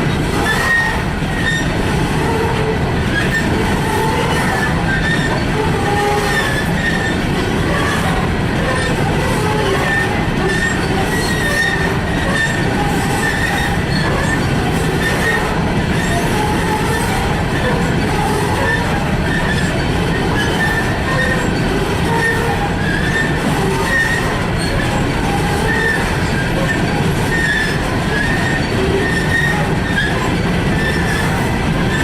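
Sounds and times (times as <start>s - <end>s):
freight train rumbling past: 0.0s - 32.0s
wheel squeals: 0.1s - 32.0s.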